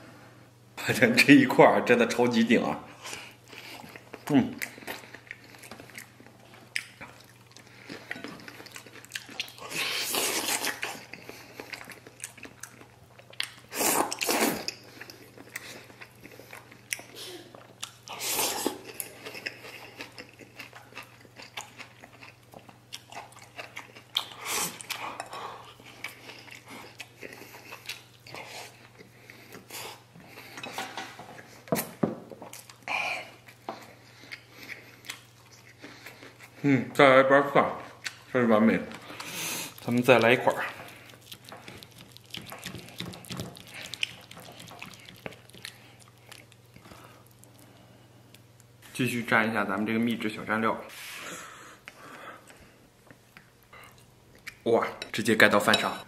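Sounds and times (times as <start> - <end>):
chewing and smacking: 3.1 - 30.6, 31.3 - 36.6, 37.8 - 38.3, 38.9 - 48.4, 51.8 - 54.6.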